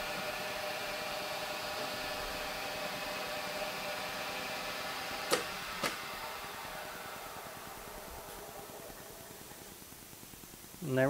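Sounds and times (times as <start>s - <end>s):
stepper motors whining: 0.0s - 10.3s.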